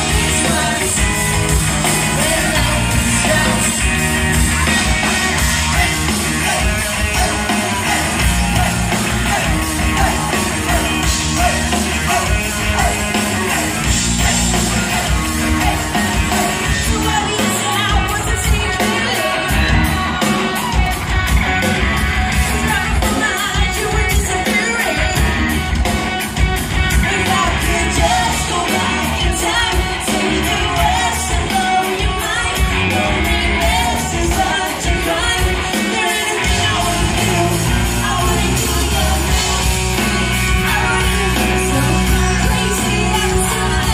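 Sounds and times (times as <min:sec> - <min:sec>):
crowd shouting: 0:00.0 - 0:43.9
lead vocal singing: 0:00.0 - 0:43.9
live pop-rock band playing: 0:00.0 - 0:43.9.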